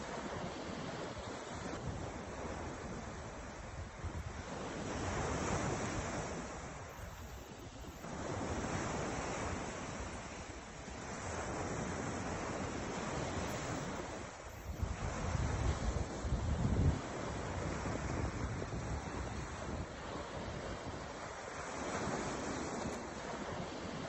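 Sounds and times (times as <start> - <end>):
ocean surf washing ashore: 0.0 - 24.0
wind buffeting microphone: 0.1 - 24.0.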